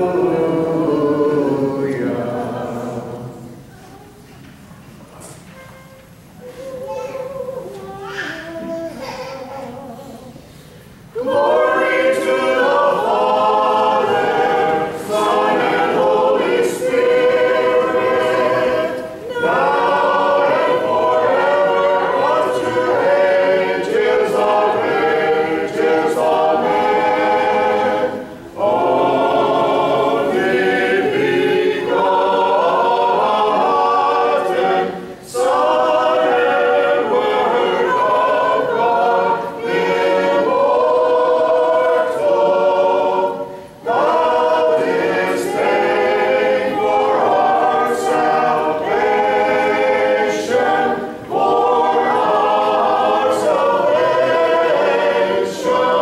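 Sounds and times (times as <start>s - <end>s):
choir singing a cappella chant: 0.0s - 3.8s, 9.7s - 56.0s.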